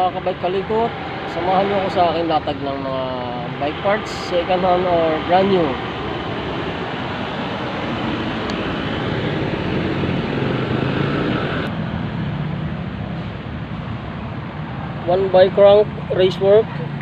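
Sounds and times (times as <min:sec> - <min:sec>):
steady traffic noise: 0:00.0 - 0:17.0
vehicle engine passing by: 0:00.0 - 0:17.0.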